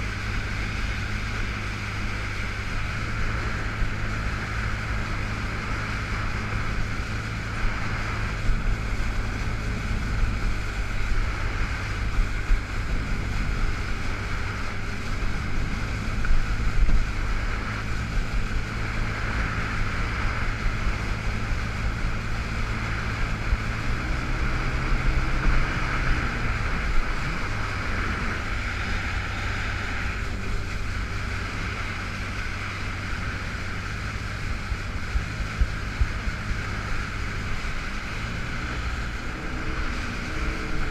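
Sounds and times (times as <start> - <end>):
jet ski engine running: 0.0 - 40.9
water spray rushing: 0.0 - 40.9
wind on microphone: 0.0 - 40.9.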